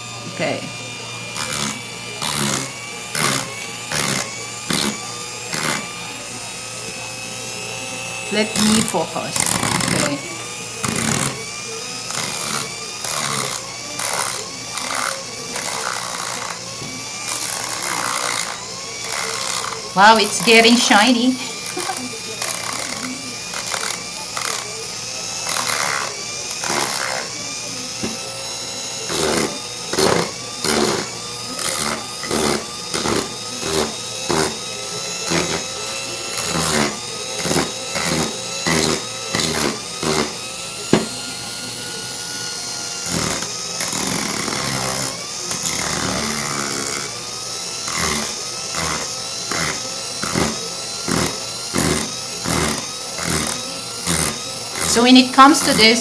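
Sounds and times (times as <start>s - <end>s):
power tool grinding metal: 0.0s - 56.0s.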